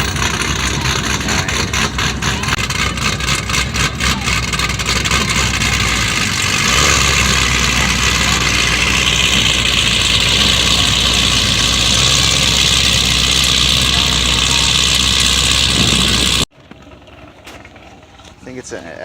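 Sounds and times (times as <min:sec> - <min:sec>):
car engine idling: 0:00.0 - 0:18.8.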